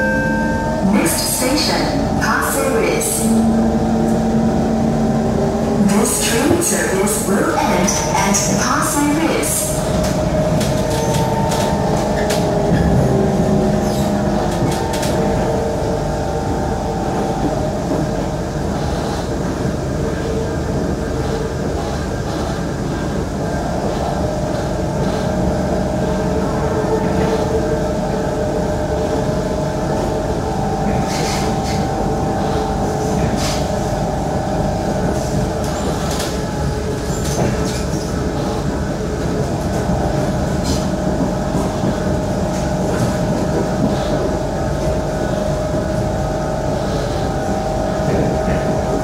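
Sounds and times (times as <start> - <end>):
steady humming tone: 0.0 - 49.0
train wheels rumbling on rails: 0.0 - 49.0.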